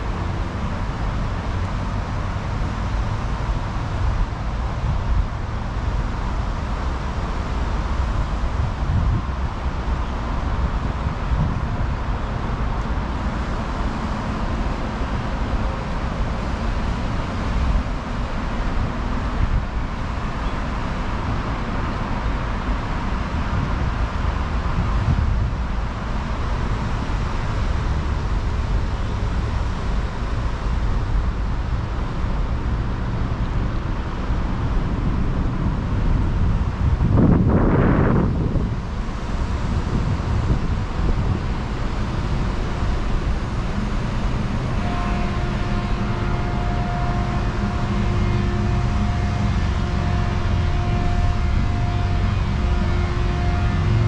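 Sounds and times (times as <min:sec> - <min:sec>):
road traffic hum: 0:00.0 - 0:54.0
wind rumbling on microphone: 0:00.0 - 0:54.0.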